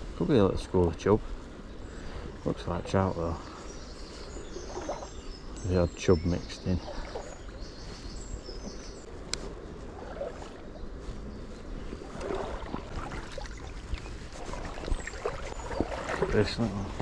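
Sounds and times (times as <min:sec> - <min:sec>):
wind buffeting microphone: 0:00.0 - 0:17.0
bird chirps: 0:01.7 - 0:09.1, 0:10.4 - 0:17.0.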